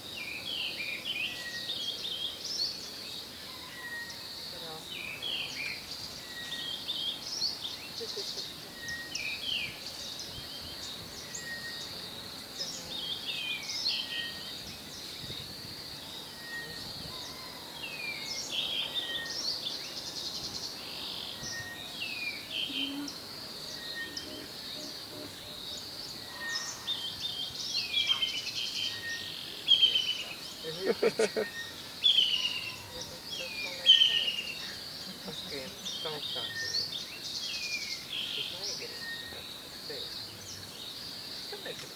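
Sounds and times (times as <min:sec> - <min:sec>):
wild birds calling and chirping: 0:00.0 - 0:41.9.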